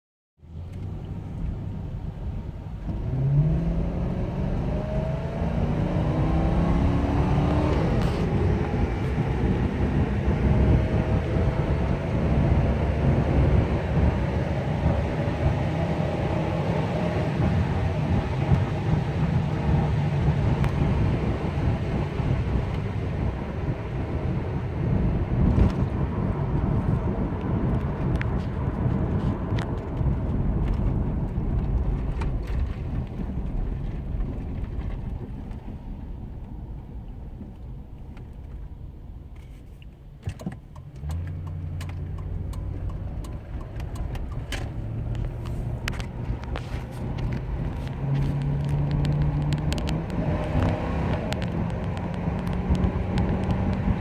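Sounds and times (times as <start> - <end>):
car engine accelerating: 0.4 - 54.0
road noise: 0.4 - 54.0.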